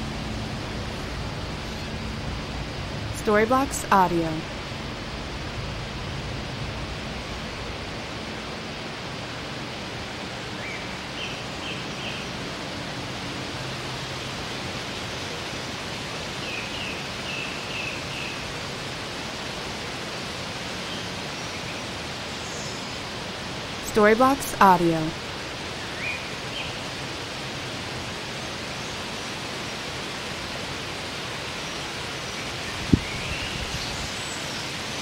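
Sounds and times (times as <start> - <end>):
steady rushing hiss: 0.0 - 35.0.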